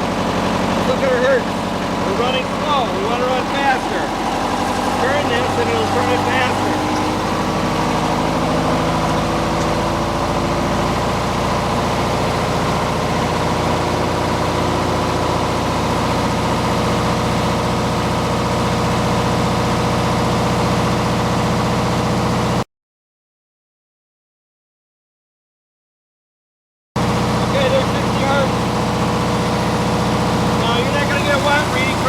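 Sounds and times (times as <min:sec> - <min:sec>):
diesel generator running: 0:00.0 - 0:22.6, 0:27.0 - 0:32.0.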